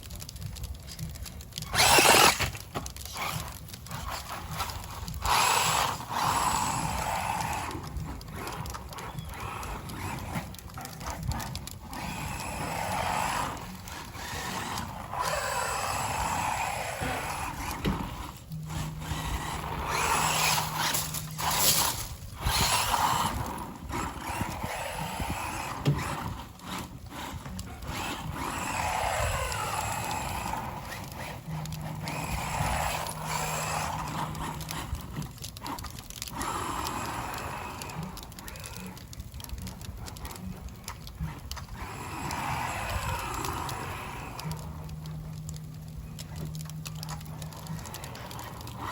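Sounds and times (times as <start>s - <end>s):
tyres spinning in snow: 0.0s - 48.9s
electric motor whirring: 1.1s - 48.9s.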